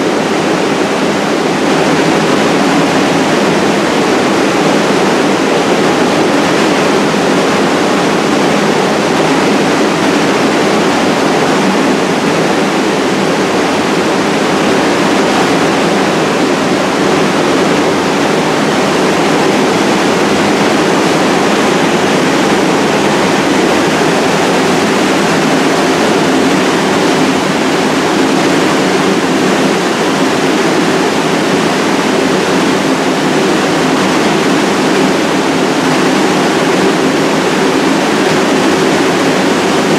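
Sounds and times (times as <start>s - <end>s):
subway train roaring: 0.0s - 39.9s.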